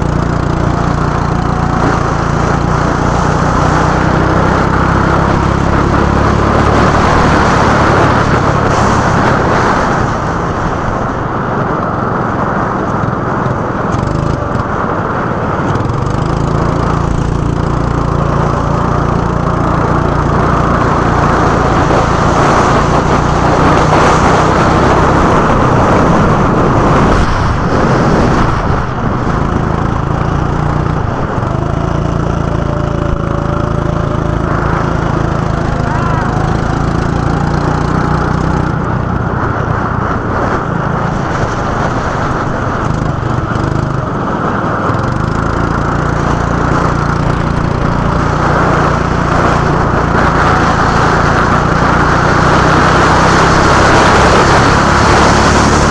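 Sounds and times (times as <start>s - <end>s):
go-kart engine running: 0.0s - 55.9s.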